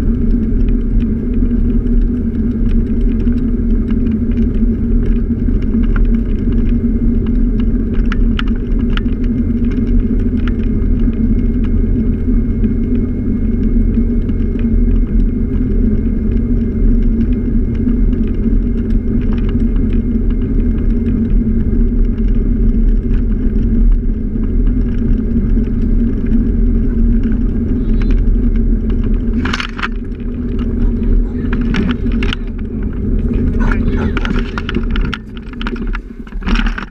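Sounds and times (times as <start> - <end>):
scooter riding rumble: 0.0 - 36.9
wind noise: 0.0 - 36.9.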